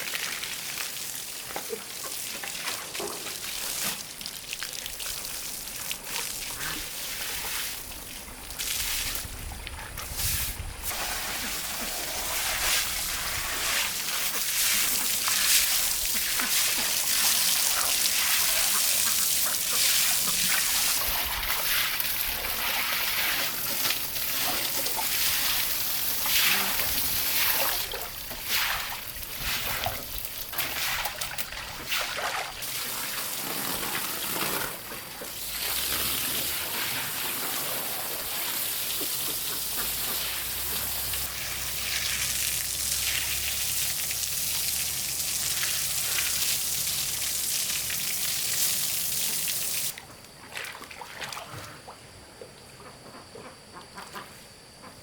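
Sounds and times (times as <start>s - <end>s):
running water hiss: 0.0s - 50.0s
water trickling and splashing: 0.0s - 51.8s.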